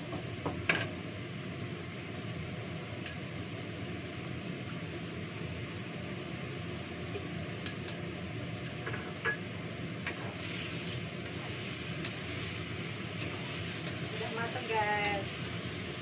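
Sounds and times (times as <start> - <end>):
low kitchen hum: 0.0 - 16.0.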